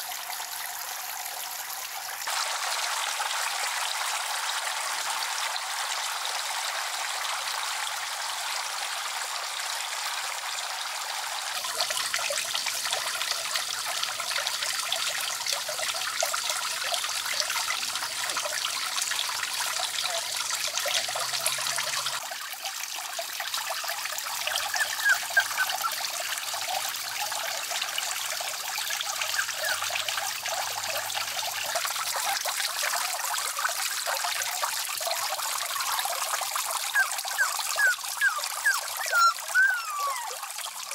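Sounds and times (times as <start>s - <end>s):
water trickling into a pond: 0.0s - 40.9s.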